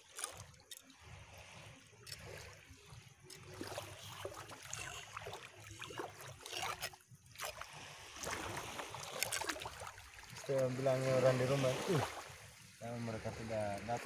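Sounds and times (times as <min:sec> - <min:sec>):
water splashing in shallows: 0:00.0 - 0:14.0.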